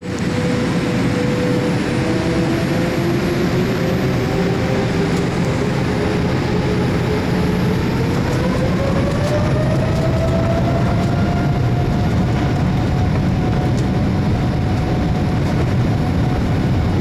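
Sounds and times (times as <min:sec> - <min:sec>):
jet engine whine rising: 0:00.0 - 0:17.0
jet engines roaring: 0:00.0 - 0:17.0.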